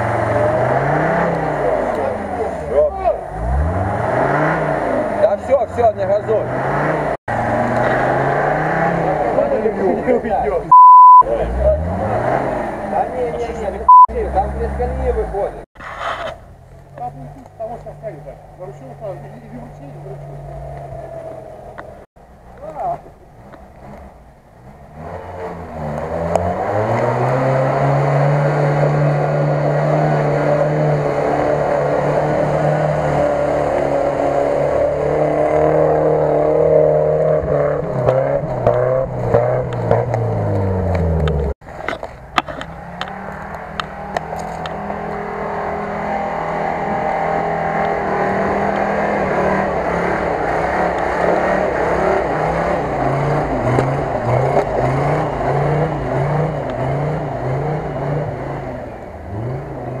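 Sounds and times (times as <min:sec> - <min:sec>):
off-road engines revving in mud: 0:00.0 - 0:15.7, 0:22.7 - 1:00.0.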